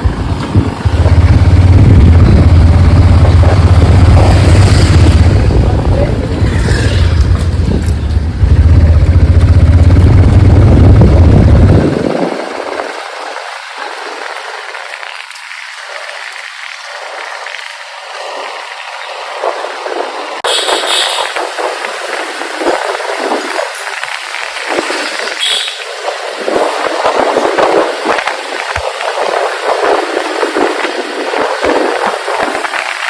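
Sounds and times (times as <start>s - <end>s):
wind on microphone: 0.0s - 15.0s, 19.2s - 33.0s
motorcycle engine rumble: 0.0s - 33.0s
street sound: 0.0s - 33.0s.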